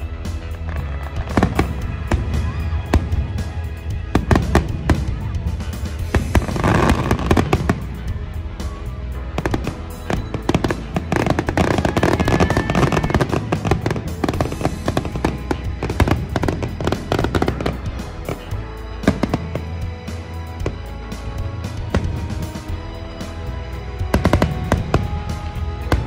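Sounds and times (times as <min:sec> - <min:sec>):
fireworks bursting and crackling: 0:00.0 - 0:26.0
music: 0:00.0 - 0:26.0.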